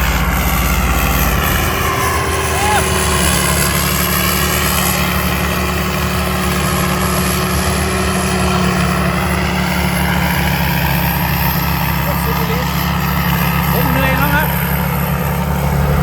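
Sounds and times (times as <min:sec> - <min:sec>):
harvester engine droning: 0:00.0 - 0:16.0
steady high whine: 0:00.0 - 0:16.0.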